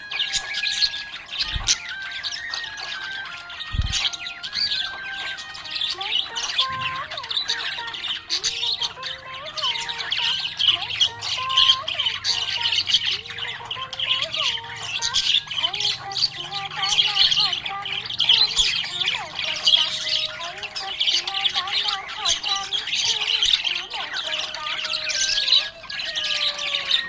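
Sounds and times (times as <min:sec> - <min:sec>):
budgerigars chirping and warbling: 0:00.0 - 0:27.0.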